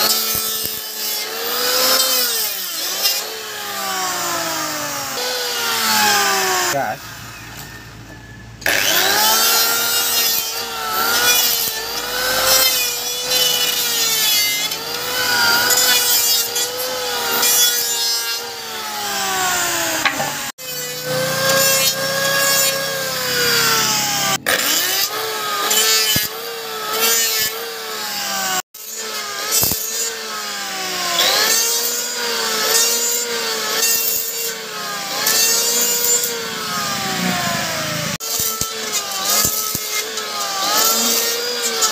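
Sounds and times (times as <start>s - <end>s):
electric planer cutting wood: 0.0s - 41.9s.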